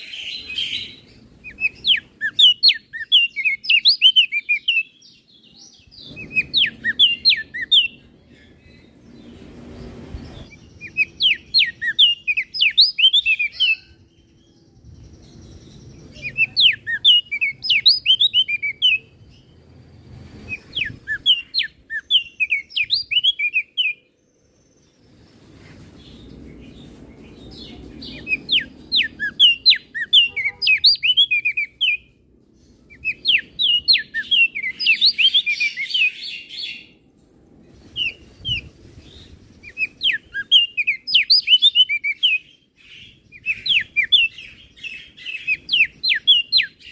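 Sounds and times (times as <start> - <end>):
bird singing high swooping chirps: 0.0 - 37.0, 37.8 - 46.9.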